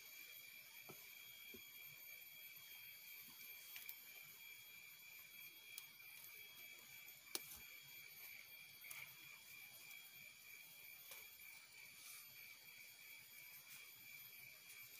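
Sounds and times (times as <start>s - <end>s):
faint high whine: 0.0s - 14.9s.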